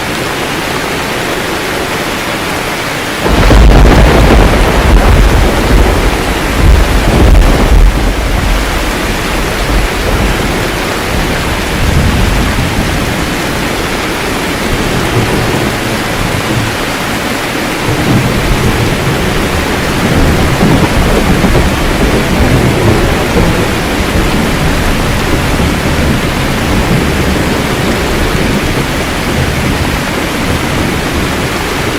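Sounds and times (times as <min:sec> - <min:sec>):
steady rain hissing: 0:00.0 - 0:31.9
rolling thunder: 0:03.2 - 0:31.9.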